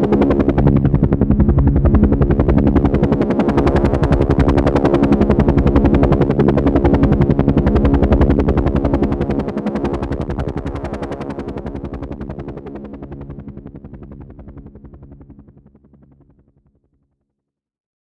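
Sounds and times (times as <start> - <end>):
helicopter rotor chopping: 0.0 - 16.2
helicopter engine drone: 0.0 - 16.9.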